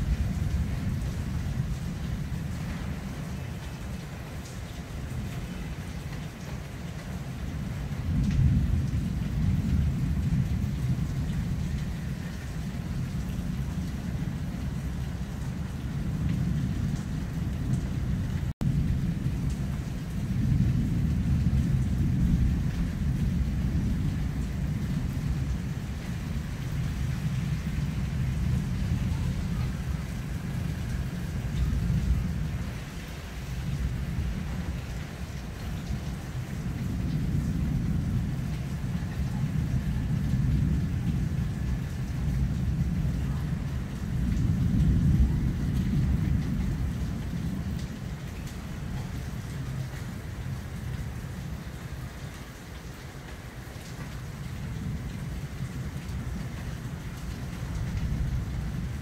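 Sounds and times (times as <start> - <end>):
thunder rumbling: 0.0 - 52.3, 53.6 - 59.0
rain hiss: 0.0 - 59.0.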